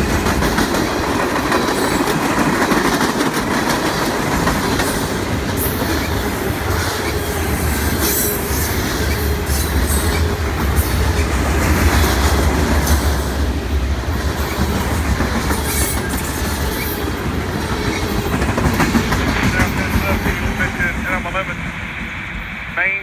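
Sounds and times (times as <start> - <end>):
clickety-clack over rail joints: 0.0 - 21.5
steel wheels rumbling on rail: 0.0 - 23.0.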